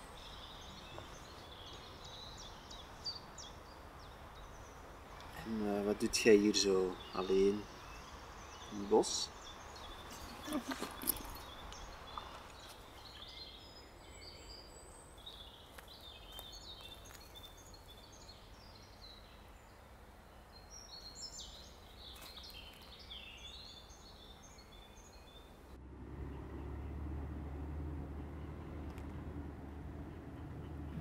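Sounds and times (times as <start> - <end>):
low street rumble: 0.0 - 20.4, 25.6 - 31.0
small birds chirping and trilling: 0.0 - 25.7.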